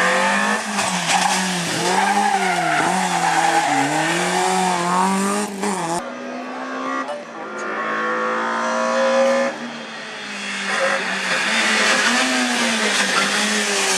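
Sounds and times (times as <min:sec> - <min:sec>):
rally car engine revving: 0:00.0 - 0:13.9.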